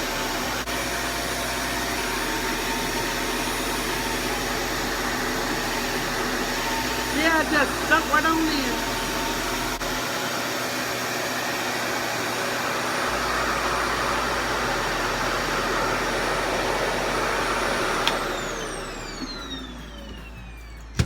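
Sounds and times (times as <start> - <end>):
motor winding down whine: 0.0 - 10.1, 13.0 - 21.0
hair dryer suction rushing: 0.0 - 21.0.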